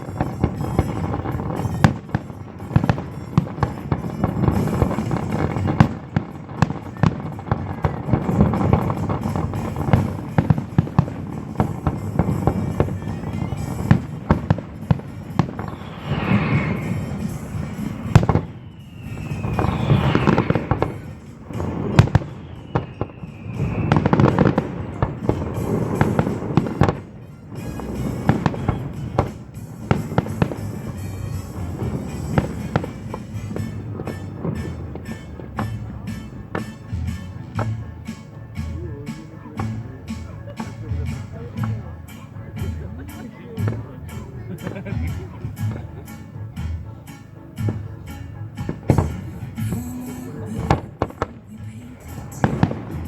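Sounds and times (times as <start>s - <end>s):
fireworks bursting with crackling: 0.0s - 53.0s
jazz music: 0.0s - 53.0s.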